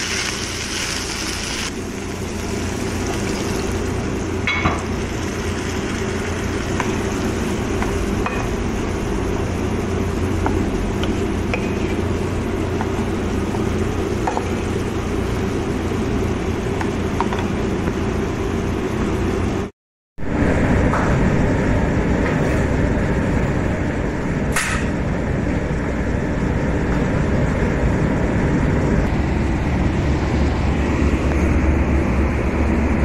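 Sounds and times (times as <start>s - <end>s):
kitchen exhaust fan running: 0.0s - 33.0s.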